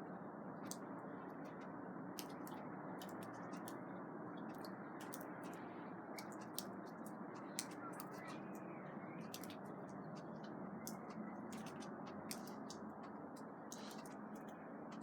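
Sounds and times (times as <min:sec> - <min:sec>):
water dripping: 0:00.6 - 0:03.8, 0:04.4 - 0:15.0.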